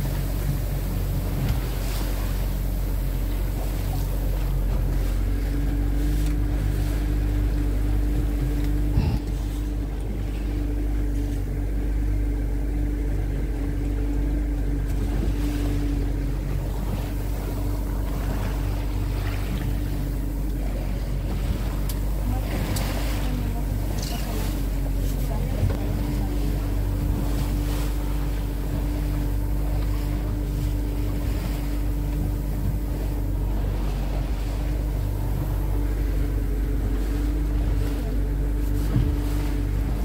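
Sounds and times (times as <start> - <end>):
motorboat engine running: 0.0 - 40.0.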